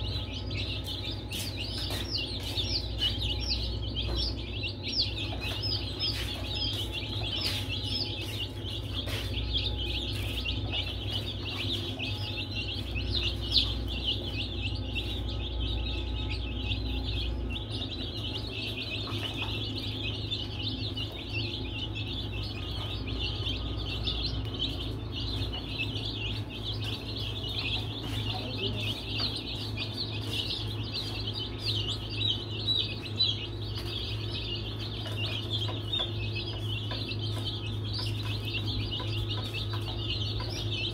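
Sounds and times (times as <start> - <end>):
baby chicks peeping: 0.0 - 40.9
steady low hum: 0.0 - 40.9.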